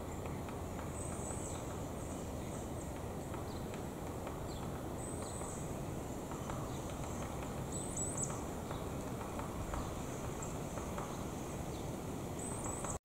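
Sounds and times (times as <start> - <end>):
high thin songbird calls: 0.0 - 3.8, 4.4 - 13.0.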